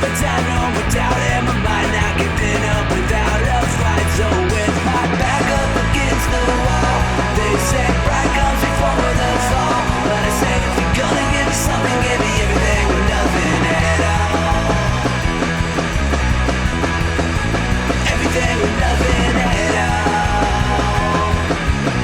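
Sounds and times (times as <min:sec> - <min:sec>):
punk rock song: 0:00.0 - 0:22.0.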